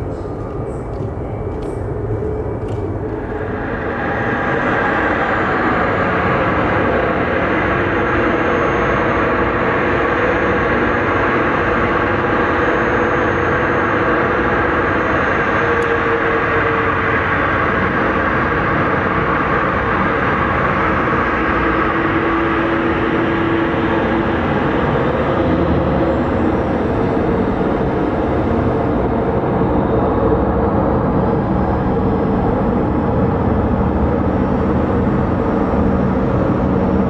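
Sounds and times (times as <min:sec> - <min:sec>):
jet engines at taxi power: 0:00.0 - 0:37.0.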